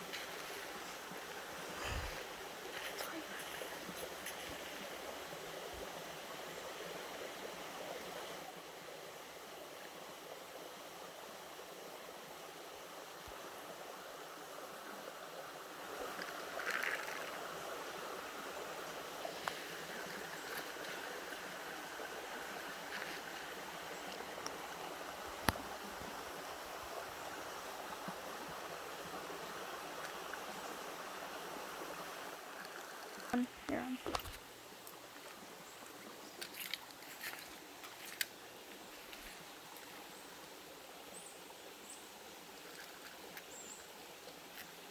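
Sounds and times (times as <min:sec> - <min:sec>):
creek water running: 0:00.0 - 0:44.9.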